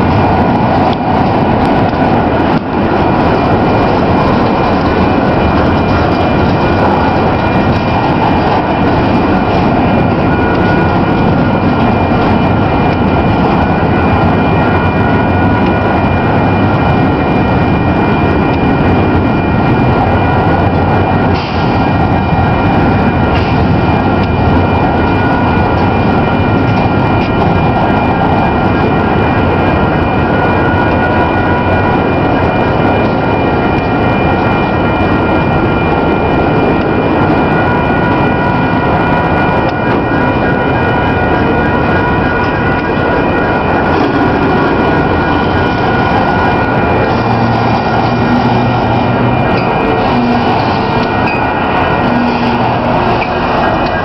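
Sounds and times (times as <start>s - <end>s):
high-pitched steady tones: 0.0s - 54.0s
train wheels rumbling on rails: 0.0s - 54.0s.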